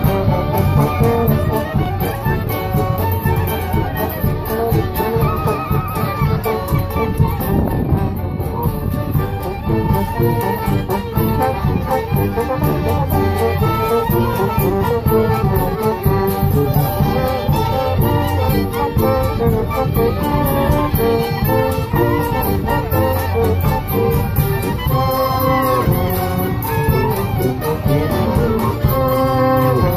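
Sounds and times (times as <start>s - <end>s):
accordions and clarinet melody: 0.0s - 29.9s
brass: 0.0s - 29.9s.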